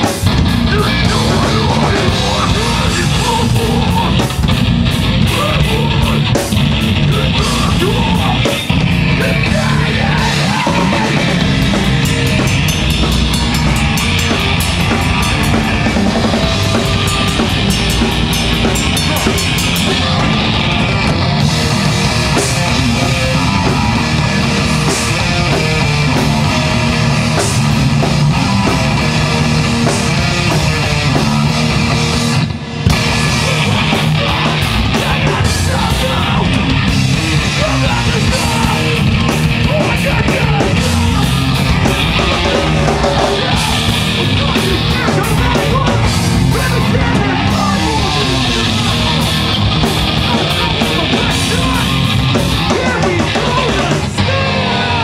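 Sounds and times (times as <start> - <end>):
vocalist singing: 0.0 - 32.4, 33.0 - 55.0
bass guitar: 0.0 - 55.0
distorted electric guitar: 0.0 - 55.0
drum kit: 0.0 - 55.0.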